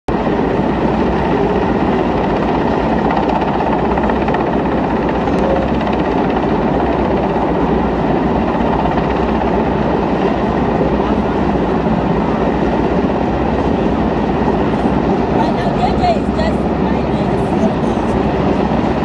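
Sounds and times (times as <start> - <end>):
helicopter rotor beating: 0.1 - 19.0.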